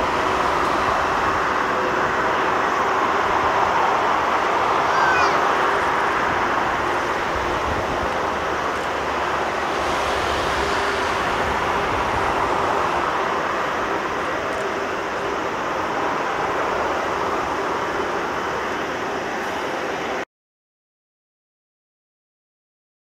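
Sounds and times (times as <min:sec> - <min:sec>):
jet engines at takeoff thrust: 0:00.0 - 0:20.2.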